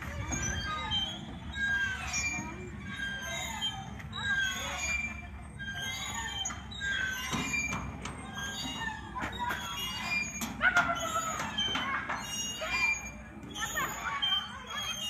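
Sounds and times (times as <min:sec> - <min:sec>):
swing chains squeaking: 0:00.0 - 0:15.0.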